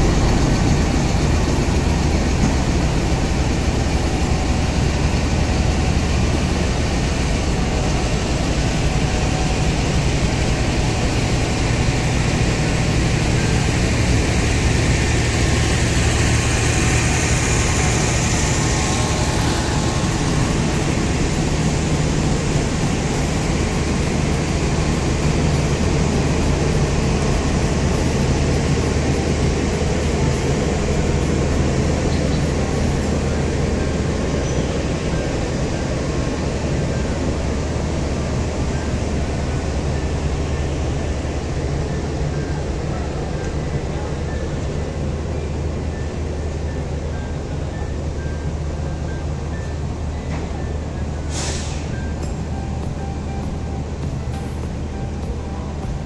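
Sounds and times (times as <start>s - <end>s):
diesel locomotive engine drone: 0.0s - 56.0s
train coaches rolling on rails: 0.0s - 56.0s.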